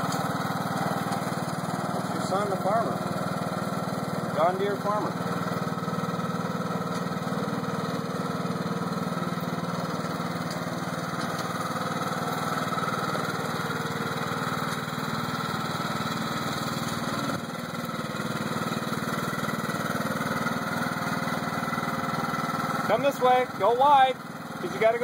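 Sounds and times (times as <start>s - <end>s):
lawn mower engine running: 0.0s - 25.0s.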